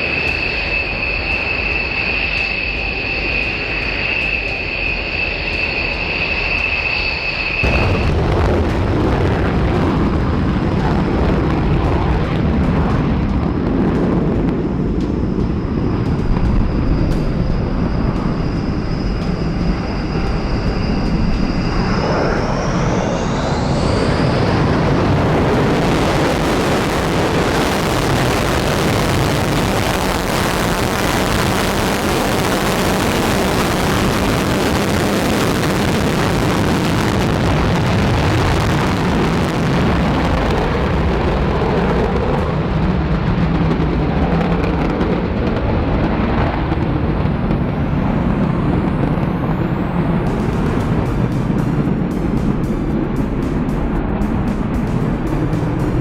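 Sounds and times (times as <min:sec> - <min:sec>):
high turbine whine: 0:00.0 - 0:56.0
jet engines roaring: 0:00.0 - 0:56.0.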